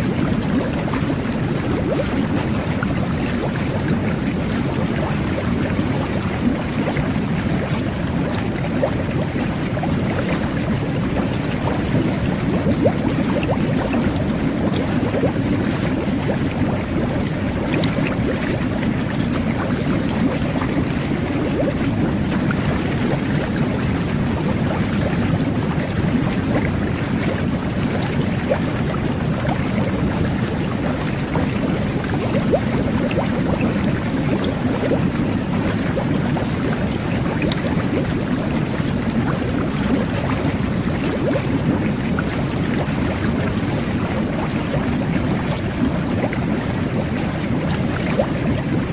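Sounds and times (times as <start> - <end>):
small bubble pops: 0.0 - 48.9
water churning and bubbling: 0.0 - 48.9.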